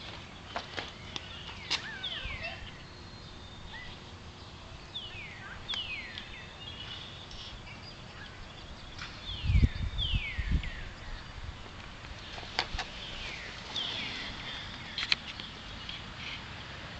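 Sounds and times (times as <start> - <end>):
faint outdoor background noise: 0.0 - 16.9.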